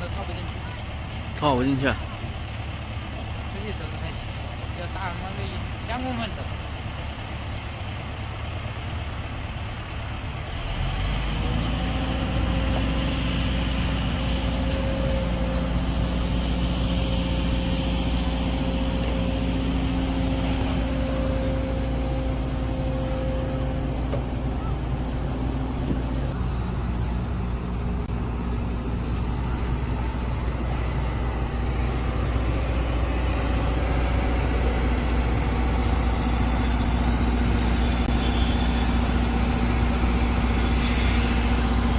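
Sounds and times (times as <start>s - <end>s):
excavator diesel engine drone: 0.0s - 41.9s.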